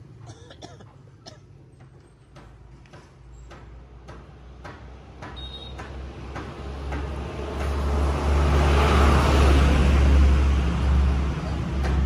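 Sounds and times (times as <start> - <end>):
truck passing by: 2.0 - 12.0.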